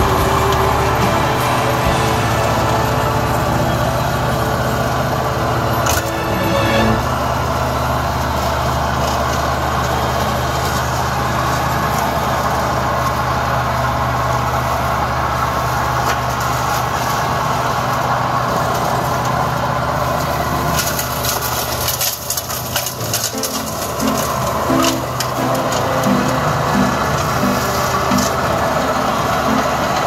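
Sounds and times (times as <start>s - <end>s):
flail mower cutting grass: 0.0s - 30.0s
tractor engine hum: 0.0s - 30.0s.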